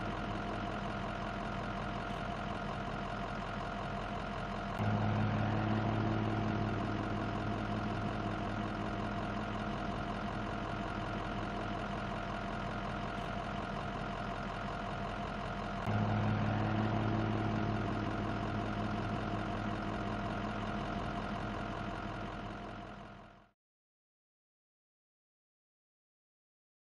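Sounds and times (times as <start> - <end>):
engine idling: 0.0 - 23.5.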